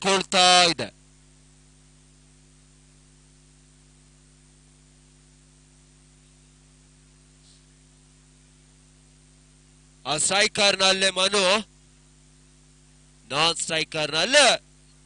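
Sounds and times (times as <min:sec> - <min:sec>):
faint steady hiss: 0:00.0 - 0:15.0
low mains hum: 0:00.0 - 0:15.0.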